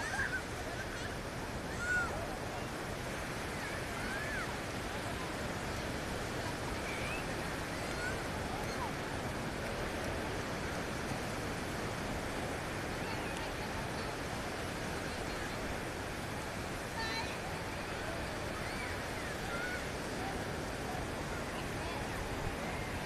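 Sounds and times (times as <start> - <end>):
sea surf on a beach: 0.0 - 23.0.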